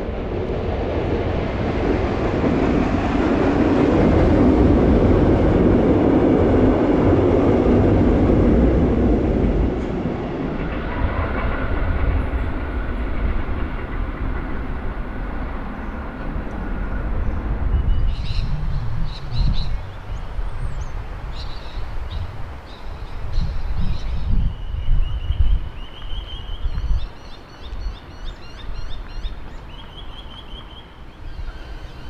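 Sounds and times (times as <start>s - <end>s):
electric train rumbling past: 0.0s - 32.0s.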